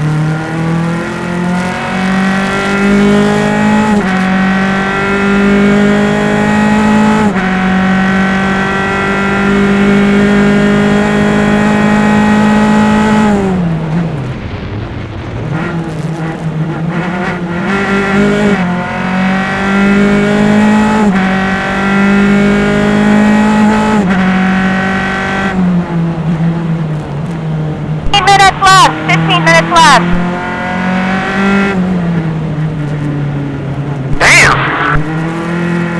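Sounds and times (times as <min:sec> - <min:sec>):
race car engine accelerating: 0:00.0 - 0:35.9.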